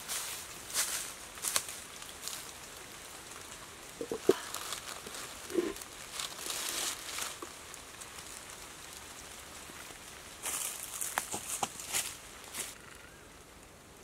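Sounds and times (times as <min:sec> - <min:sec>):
dry leaves crackling underfoot: 0:00.0 - 0:13.7.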